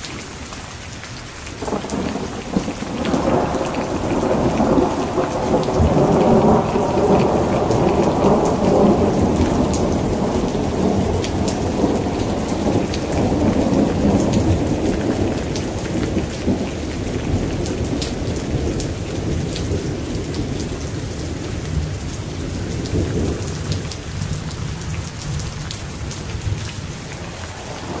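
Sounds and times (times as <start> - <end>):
raindrops ticking: 0.0 - 28.0
steady rain: 0.0 - 28.0
deep rumble of thunder: 1.6 - 28.0.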